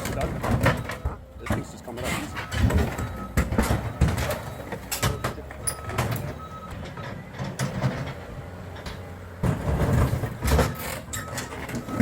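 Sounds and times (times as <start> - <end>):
cracks and clatters of debris: 0.0 - 12.0
skid steer engine running: 0.0 - 12.0.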